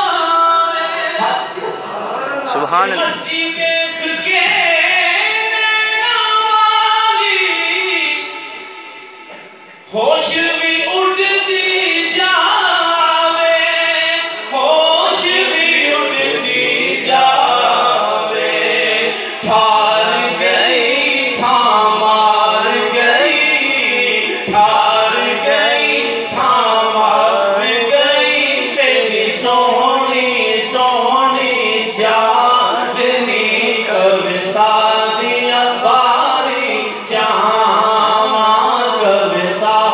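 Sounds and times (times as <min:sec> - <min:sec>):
man singing unaccompanied: 0:00.0 - 0:08.9, 0:09.8 - 0:39.9.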